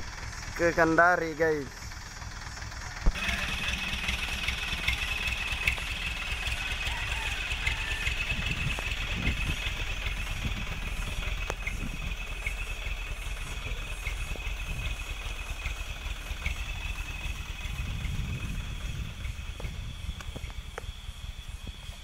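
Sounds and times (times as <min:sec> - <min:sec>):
truck engine low rumble: 0:00.0 - 0:22.0.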